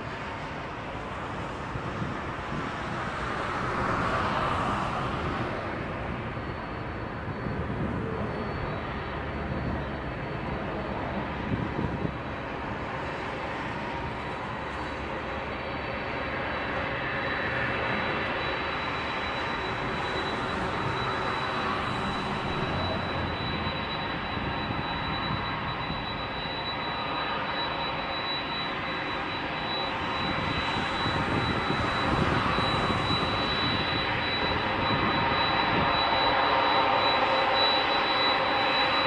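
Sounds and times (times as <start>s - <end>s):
high jet whine: 0.0s - 39.0s
jet engines at taxi power: 0.0s - 39.0s.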